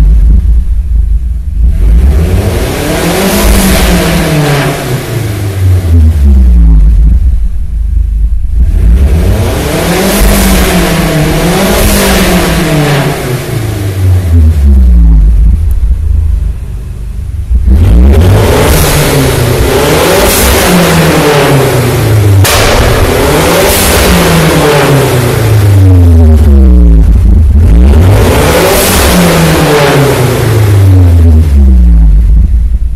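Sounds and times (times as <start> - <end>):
car engine revving: 0.0 - 32.9.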